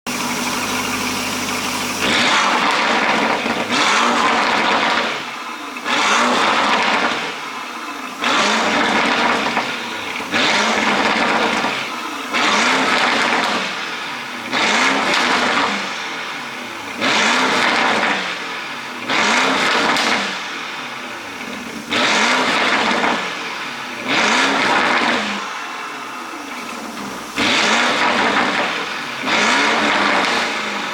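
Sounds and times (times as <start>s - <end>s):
car engine revving: 0.1s - 30.9s
exhaust pops and crackles: 0.1s - 30.9s.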